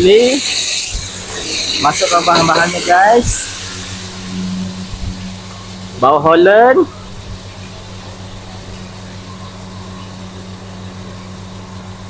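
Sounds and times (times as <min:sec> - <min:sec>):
wok stove and fan drone: 0:00.0 - 0:12.0.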